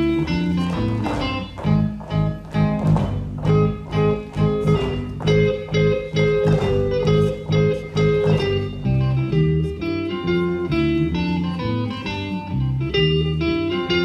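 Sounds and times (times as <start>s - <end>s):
instrumental dance music: 0.0s - 14.0s.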